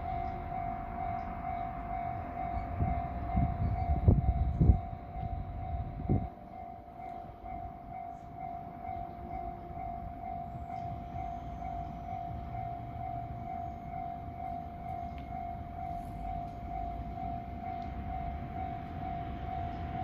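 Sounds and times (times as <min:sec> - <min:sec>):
level-crossing warning bell: 0:00.0 - 0:20.0
low train rumble: 0:00.0 - 0:20.0.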